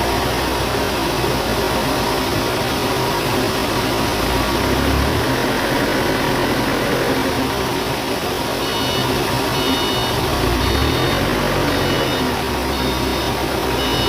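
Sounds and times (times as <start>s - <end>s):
engine-driven machinery running: 0.0s - 14.0s.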